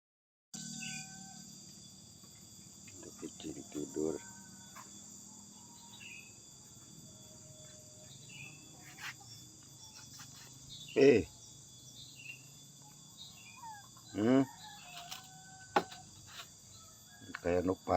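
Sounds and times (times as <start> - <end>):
crickets shrilling: 0.6 - 17.9.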